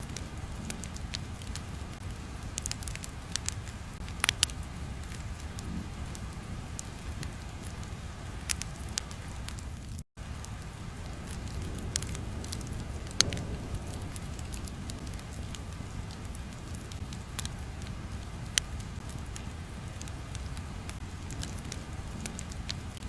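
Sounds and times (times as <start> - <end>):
fire crackling: 0.0 - 23.0.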